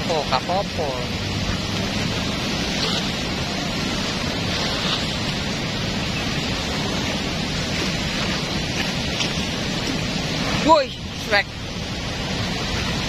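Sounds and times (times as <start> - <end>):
fast-flowing river roaring: 0.0 - 13.0.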